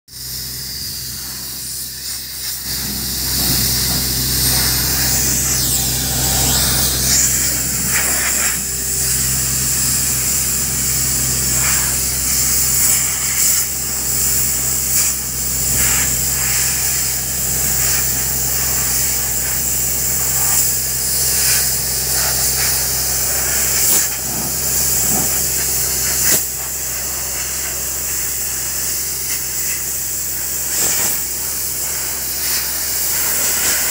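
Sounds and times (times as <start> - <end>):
compressed air hissing: 0.1 - 33.9
drill rig engine drone: 0.1 - 33.9.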